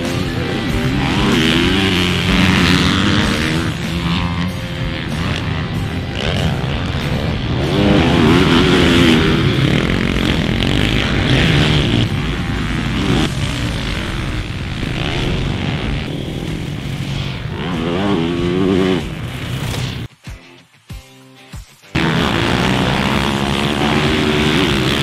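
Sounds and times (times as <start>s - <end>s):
dirt bike engines revving: 0.0s - 20.1s, 21.9s - 25.0s.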